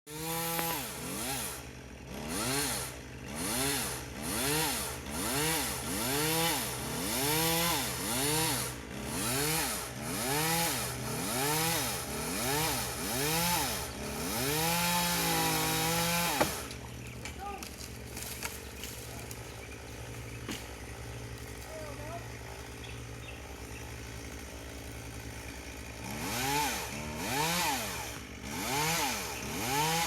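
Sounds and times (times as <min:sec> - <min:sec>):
chainsaw cutting tree: 0:00.1 - 0:30.0.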